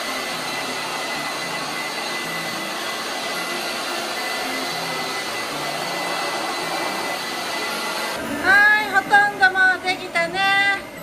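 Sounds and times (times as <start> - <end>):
electric blower running: 0.0 - 11.0.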